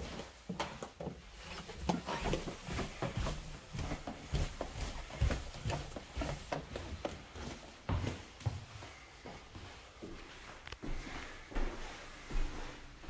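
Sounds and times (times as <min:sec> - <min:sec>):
footsteps on wooden stairs: 0:00.0 - 0:13.0.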